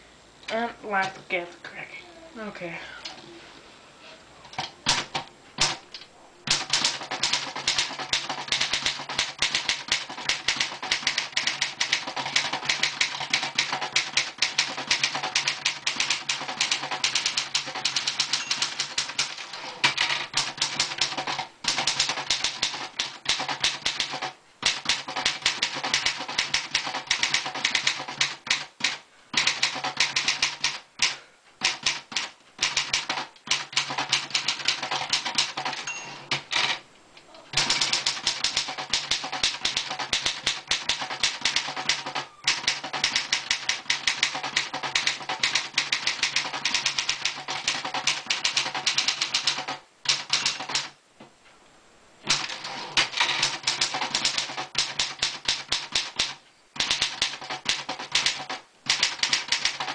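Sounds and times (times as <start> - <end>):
manual typewriter typing: 4.5 - 36.8, 37.5 - 51.0, 52.3 - 59.9.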